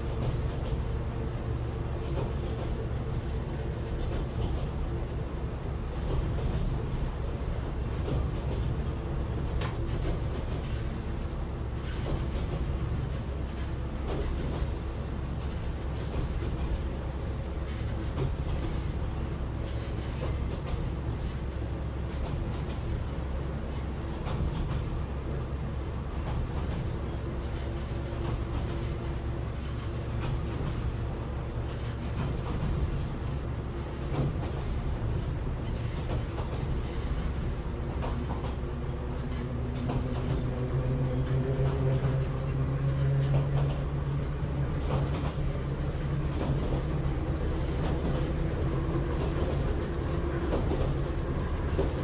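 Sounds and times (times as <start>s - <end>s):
rail joint clicks: 0.0s - 52.0s
wheels rumbling on track: 0.0s - 52.0s.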